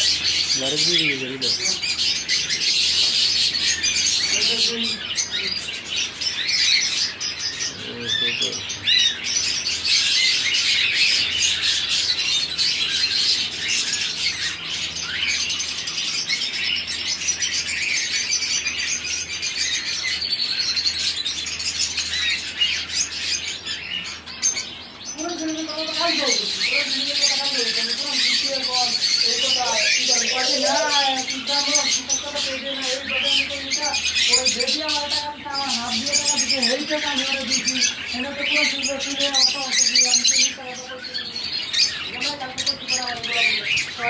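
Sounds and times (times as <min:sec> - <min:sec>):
small birds chirping and chattering: 0:00.0 - 0:44.0.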